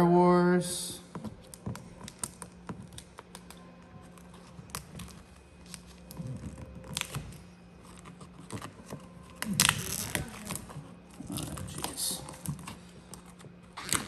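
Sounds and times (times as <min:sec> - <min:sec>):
steady low hum: 0:00.0 - 0:14.0
vinyl film crackling: 0:01.2 - 0:14.0.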